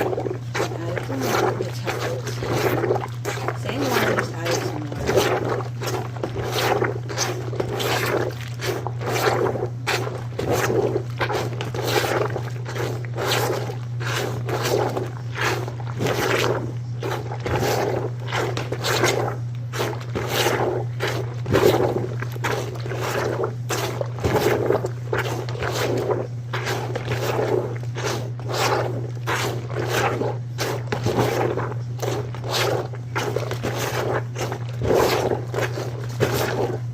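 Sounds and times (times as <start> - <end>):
plunger washer sloshing water: 0.0 - 36.9.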